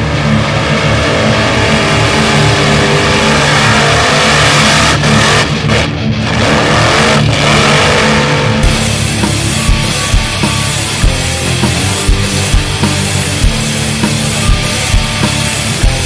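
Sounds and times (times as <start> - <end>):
music: 0.0 - 16.0
vehicle engine revving: 0.0 - 16.0.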